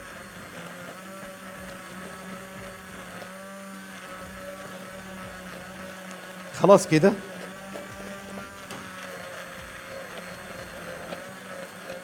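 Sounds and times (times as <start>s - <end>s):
stick blender motor hum: 0.0s - 12.0s.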